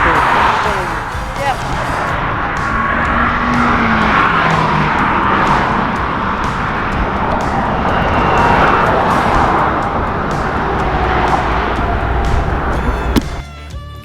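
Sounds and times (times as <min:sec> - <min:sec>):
highway traffic rushing: 0:00.0 - 0:13.5.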